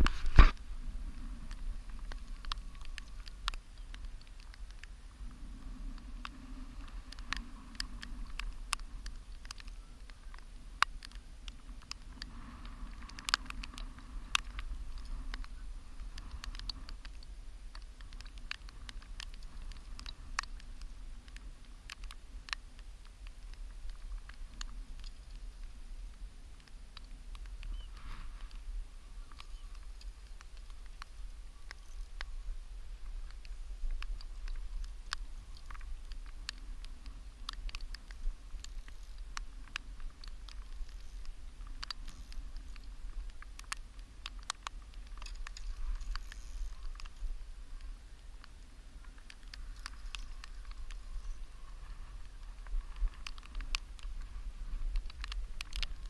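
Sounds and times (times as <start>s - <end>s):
light ticks and clicks: 0.0s - 56.0s
steady low rumble: 0.0s - 56.0s.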